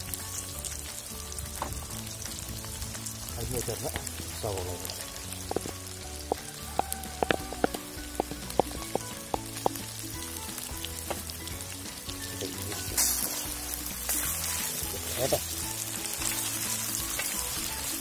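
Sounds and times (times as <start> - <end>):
background music: 0.0 - 18.0
chicken and onions sizzling: 0.0 - 18.0.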